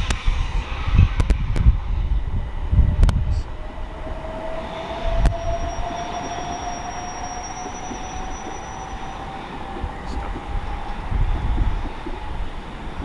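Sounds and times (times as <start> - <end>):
train motor whine rising: 0.0 - 13.0
train rumbling: 0.0 - 13.0.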